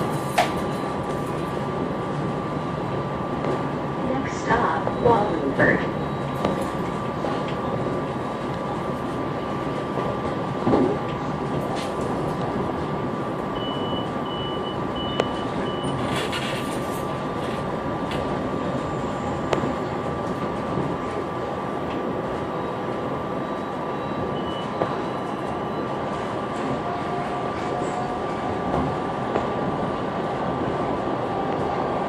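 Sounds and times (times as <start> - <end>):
train interior rumble: 0.0 - 32.0.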